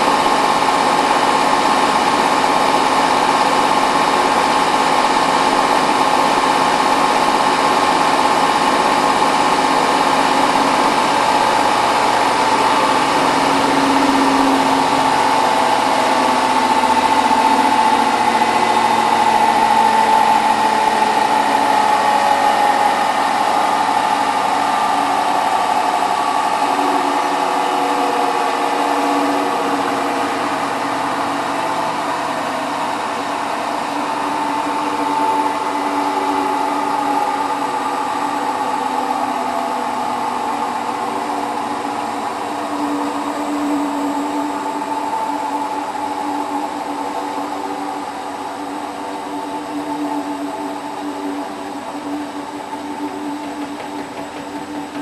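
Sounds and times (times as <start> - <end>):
washing machine fast spin: 0.0 - 55.0.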